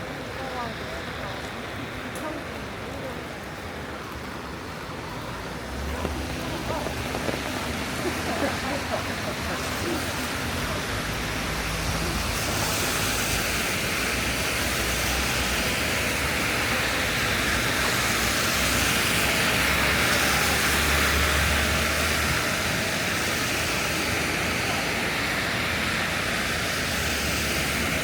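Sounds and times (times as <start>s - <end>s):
low vehicle engine rumble: 0.0s - 27.9s
falling rain: 0.0s - 28.0s
wet street noise: 0.0s - 28.0s.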